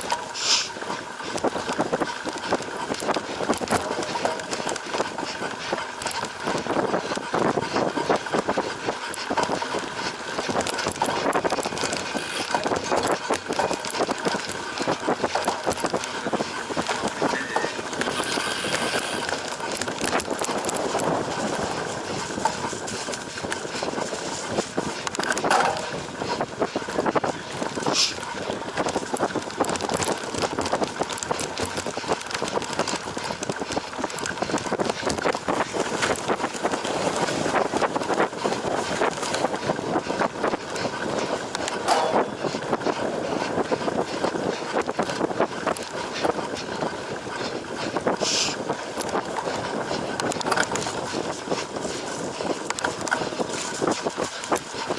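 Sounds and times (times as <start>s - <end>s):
bike rattling and clattering: 0.0s - 54.9s
tyre noise: 0.0s - 54.9s.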